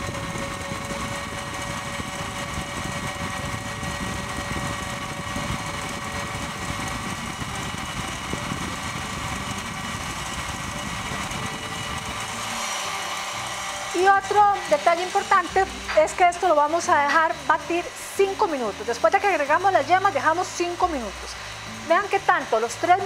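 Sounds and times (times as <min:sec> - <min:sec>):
stand mixer motor humming: 0:00.0 - 0:23.0
whisk whirring in bowl: 0:00.0 - 0:23.0.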